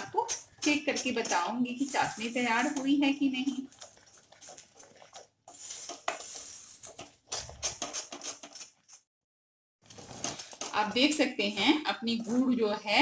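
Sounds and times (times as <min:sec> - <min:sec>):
wooden spatula scraping a steel pan: 0:00.0 - 0:09.1, 0:09.9 - 0:13.0.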